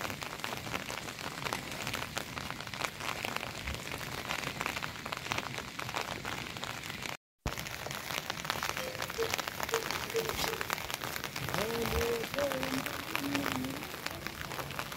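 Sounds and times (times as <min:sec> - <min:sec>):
rain pattering: 0:00.0 - 0:14.9.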